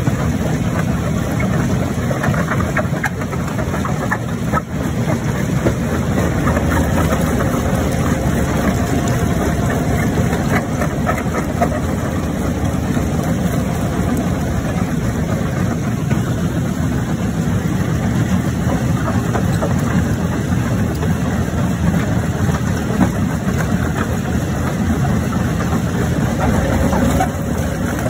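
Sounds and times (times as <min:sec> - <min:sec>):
heavy machinery engine drone: 0:00.0 - 0:28.0.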